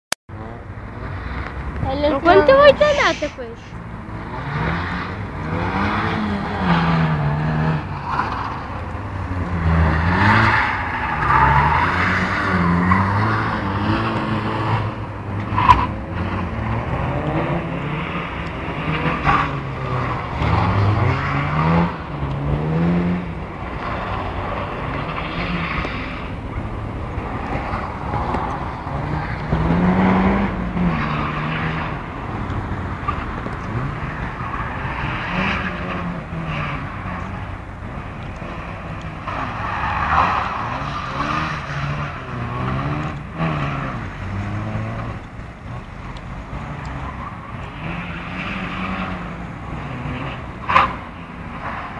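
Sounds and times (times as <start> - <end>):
car engine revving: 0.3 - 51.9.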